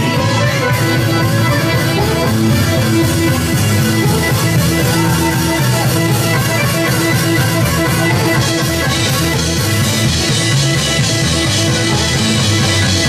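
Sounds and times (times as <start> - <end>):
live folk dance band: 0.0 - 13.0.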